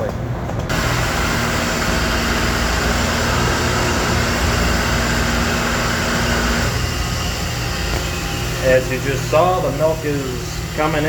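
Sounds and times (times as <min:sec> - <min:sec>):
constant mechanical tone: 0:00.0 - 0:11.0
milking pipeline hiss and hum: 0:00.7 - 0:11.0.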